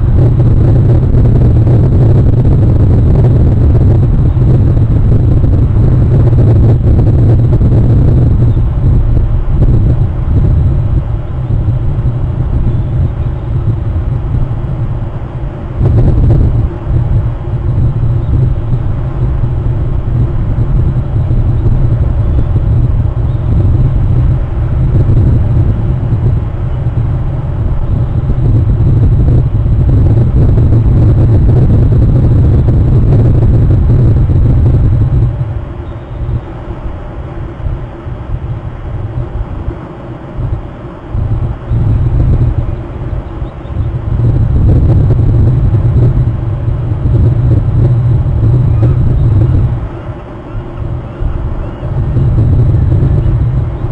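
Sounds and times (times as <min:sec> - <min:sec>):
loud low rumble: 0:00.0 - 0:53.9.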